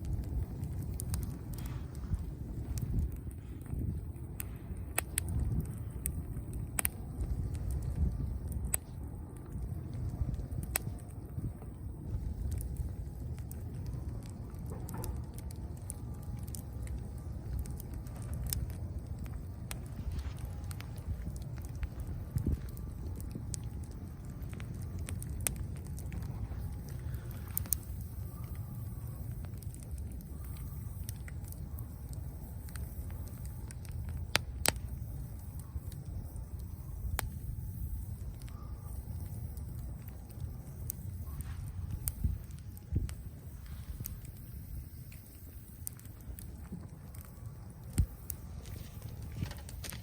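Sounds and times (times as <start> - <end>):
campfire low rumble: 0.0 - 50.0
fire crackles and pops: 0.0 - 50.0.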